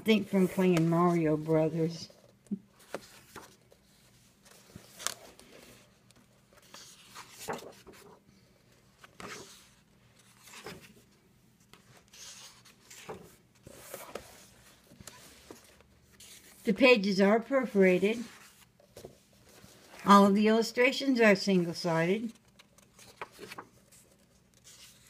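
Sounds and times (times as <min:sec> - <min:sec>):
paper pages turning: 0:00.2 - 0:08.2, 0:08.8 - 0:16.8, 0:18.1 - 0:20.1, 0:21.9 - 0:25.0.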